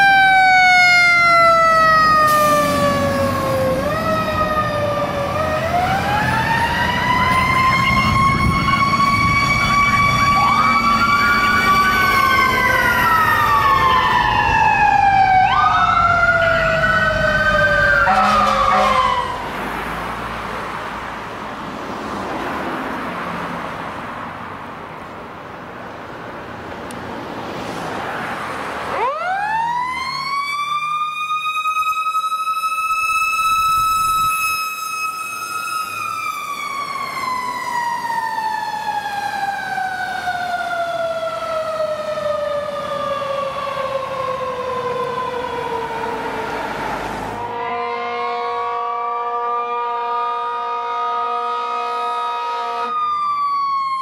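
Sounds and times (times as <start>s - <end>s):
fire truck sirens wailing: 0.0s - 24.1s, 27.2s - 54.0s
truck road and engine noise: 0.0s - 54.0s.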